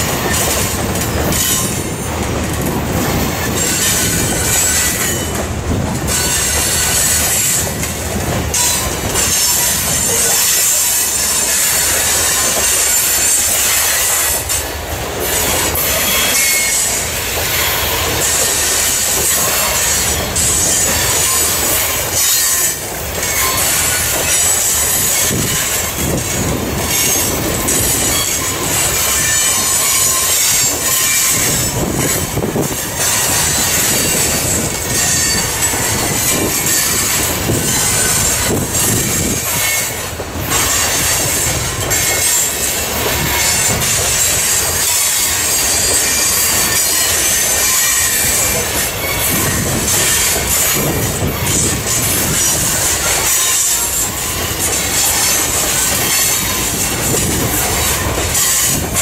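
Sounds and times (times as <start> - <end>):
train rumble and clatter: 0.0 - 59.0
train wheel squeal: 0.0 - 59.0.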